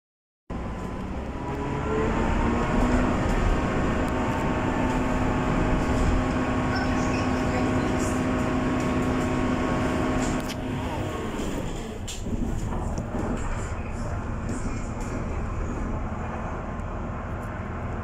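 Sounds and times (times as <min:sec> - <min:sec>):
train wheels rumbling on rails: 0:00.5 - 0:18.0.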